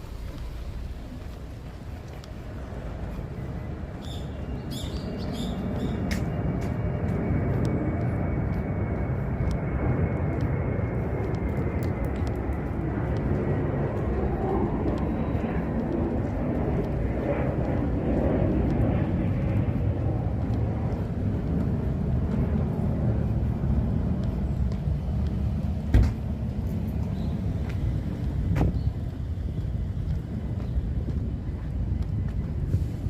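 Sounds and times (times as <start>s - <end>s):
jet airplane passing overhead: 0.0s - 33.0s.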